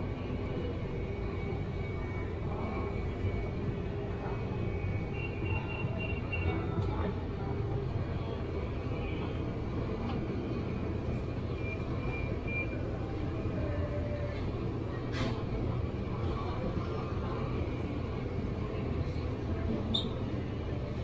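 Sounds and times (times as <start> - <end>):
refrigerator and ventilation hum: 0.0 - 21.0.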